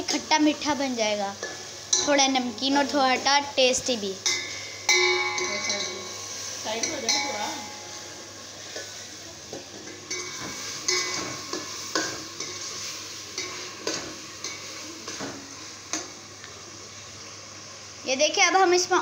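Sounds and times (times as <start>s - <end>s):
food sizzling: 0.0s - 19.0s.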